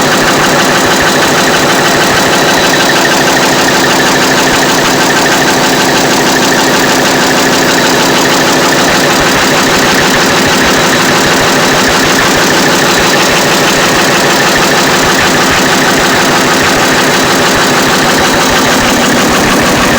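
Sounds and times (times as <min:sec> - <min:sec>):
diesel engine idling with valve clatter: 0:00.0 - 0:19.9.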